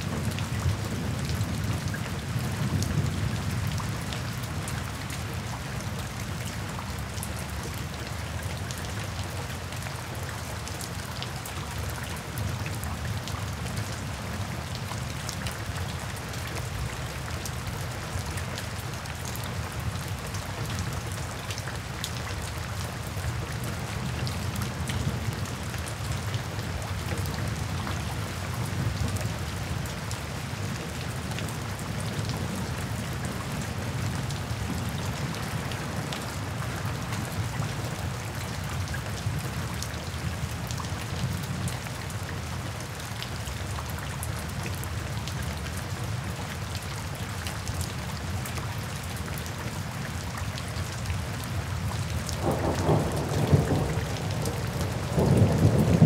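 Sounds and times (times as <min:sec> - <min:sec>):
low rumble of rain: 0:00.0 - 0:56.0
rain drops ticking on hard surfaces: 0:00.0 - 0:56.0.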